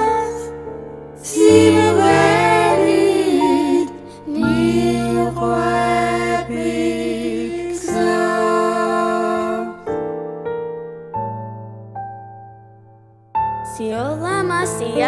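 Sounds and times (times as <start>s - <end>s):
soft slow instrumental music: 0.0s - 15.0s.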